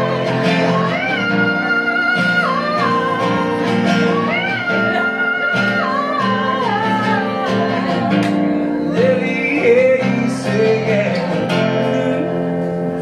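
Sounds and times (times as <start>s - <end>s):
acoustic guitar strumming: 0.0s - 13.0s
man singing: 0.0s - 13.0s.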